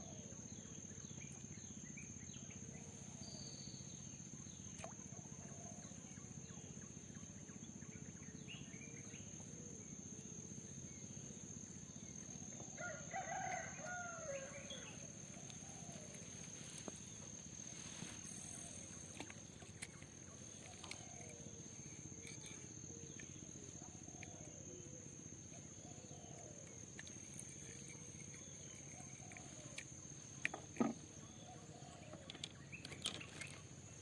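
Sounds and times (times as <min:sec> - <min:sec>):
insect high-pitched drone: 0:00.0 - 0:34.0.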